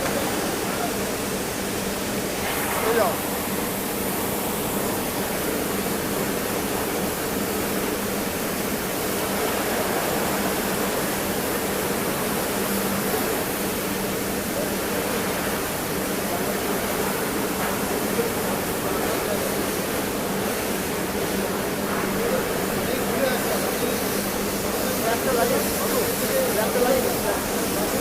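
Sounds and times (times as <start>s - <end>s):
pressure washer jet hissing: 0.0s - 28.0s.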